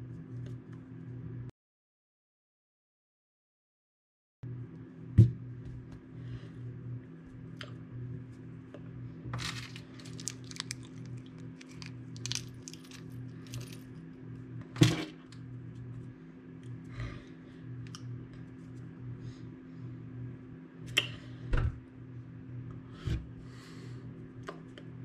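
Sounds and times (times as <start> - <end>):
steady low hum: 4.5 - 25.0.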